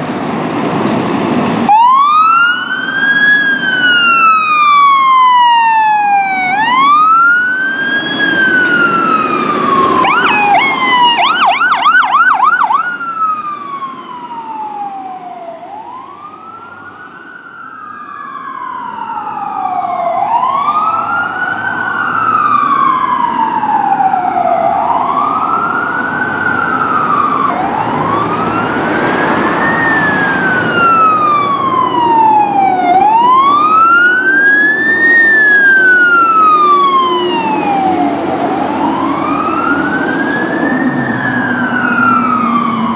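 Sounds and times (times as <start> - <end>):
fire truck siren wailing: 0.0 - 42.9
siren rapid warble: 1.7 - 42.9.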